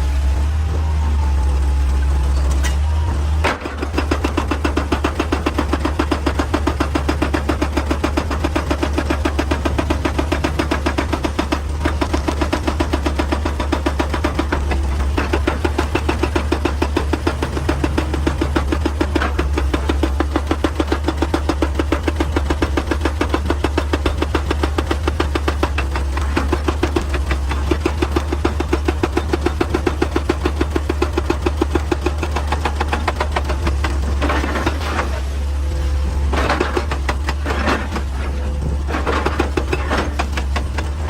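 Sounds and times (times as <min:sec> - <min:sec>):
excavator engine drone: 0:00.0 - 0:41.0.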